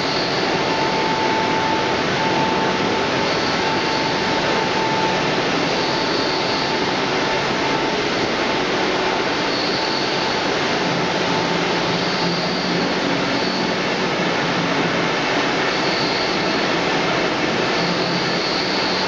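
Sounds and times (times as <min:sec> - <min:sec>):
faint high whine: 0:00.0 - 0:19.0
production line machinery: 0:00.0 - 0:19.0.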